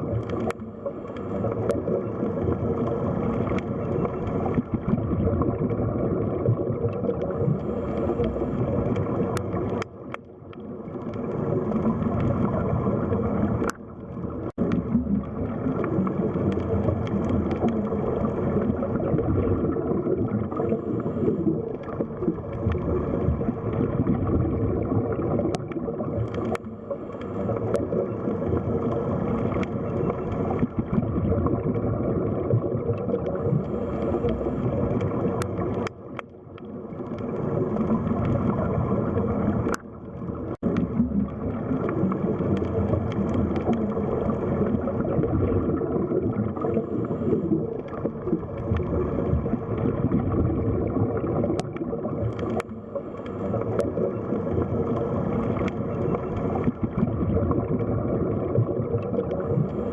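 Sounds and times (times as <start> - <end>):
faint steady hum: 0.0 - 59.9
muffled underwater water rush: 0.0 - 59.9.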